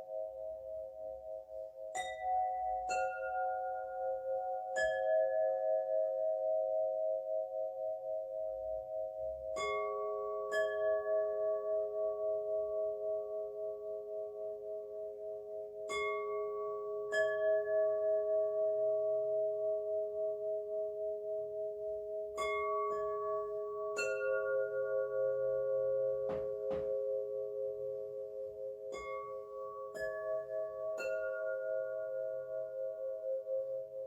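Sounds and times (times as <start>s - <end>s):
singing bowls ringing: 0.0s - 34.0s.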